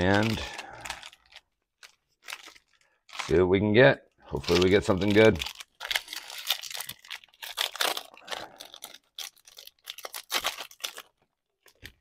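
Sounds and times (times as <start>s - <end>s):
foil wrapper tearing and crinkling: 0.0s - 3.4s, 4.4s - 12.0s.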